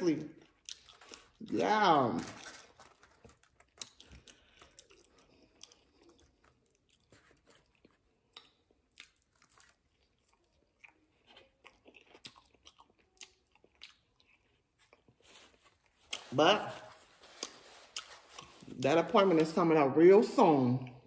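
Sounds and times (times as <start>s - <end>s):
person chewing food: 0.2s - 1.5s, 2.3s - 18.8s.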